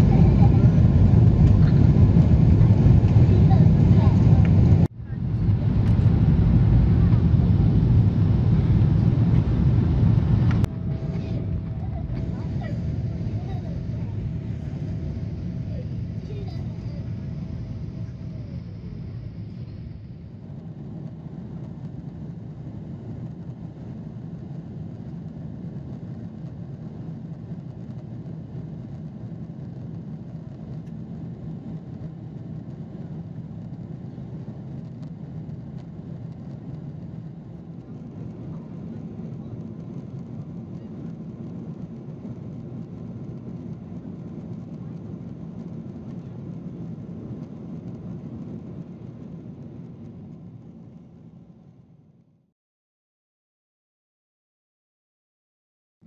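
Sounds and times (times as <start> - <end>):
jet engine cabin rumble: 0.0 - 52.2.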